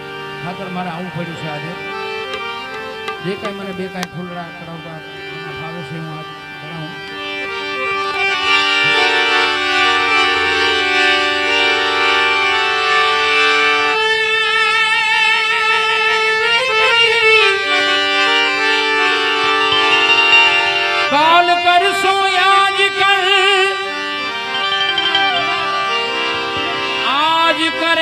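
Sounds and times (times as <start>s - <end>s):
harmonium melody: 0.0s - 28.0s
vibrato melodic line: 0.0s - 28.0s.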